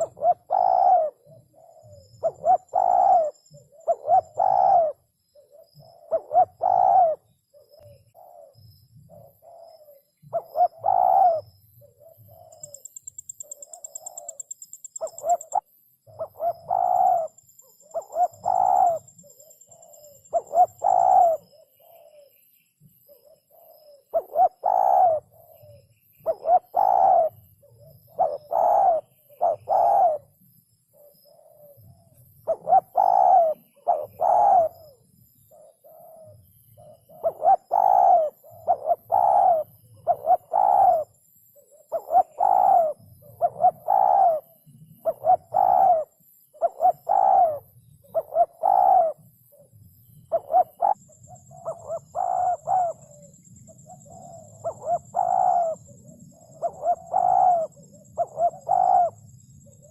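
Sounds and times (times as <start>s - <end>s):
dove cooing: 0.0s - 22.4s, 23.0s - 59.9s.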